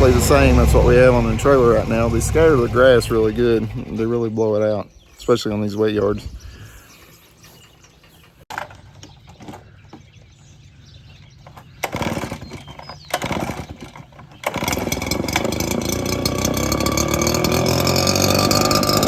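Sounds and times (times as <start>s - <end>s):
lawn mower engine: 0.0s - 4.4s, 7.4s - 19.0s.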